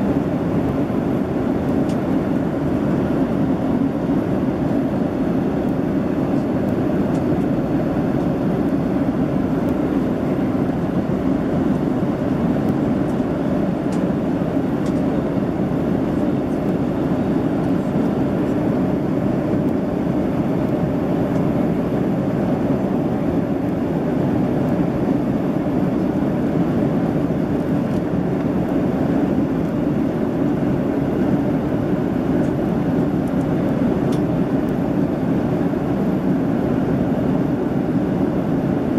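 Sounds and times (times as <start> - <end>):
airliner cabin noise: 0.0 - 38.9.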